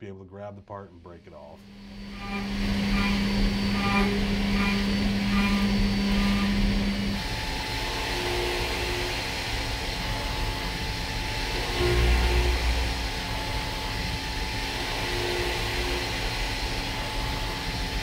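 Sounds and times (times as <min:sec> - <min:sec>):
machine running hum: 0:01.1 - 0:18.0
milling machine cutting steel: 0:01.6 - 0:18.0.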